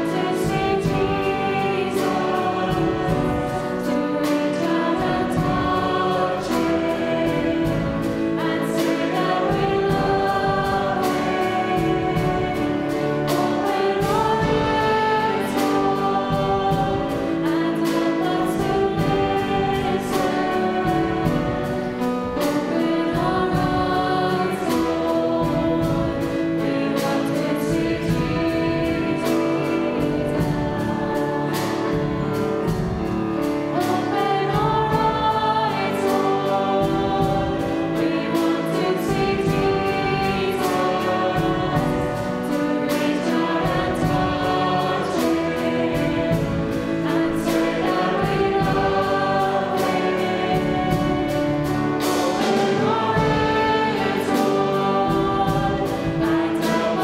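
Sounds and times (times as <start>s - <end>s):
band accompaniment with drums: 0.0s - 57.0s
group singing worship song: 0.0s - 57.0s.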